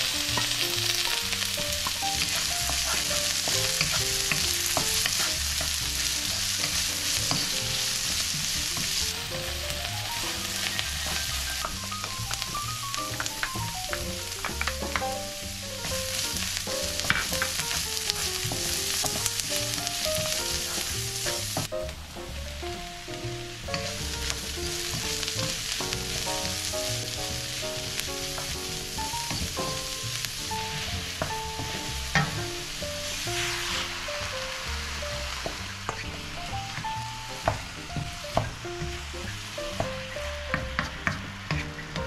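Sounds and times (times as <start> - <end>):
soft background music: 0.0 - 42.0
vegetables sizzling in a wok: 0.0 - 42.0
wooden spatula scraping: 0.0 - 42.0.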